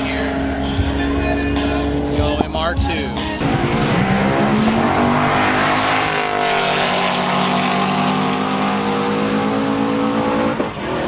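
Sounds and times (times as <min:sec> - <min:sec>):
race car engine at high revs: 0:00.0 - 0:02.6, 0:03.4 - 0:11.0.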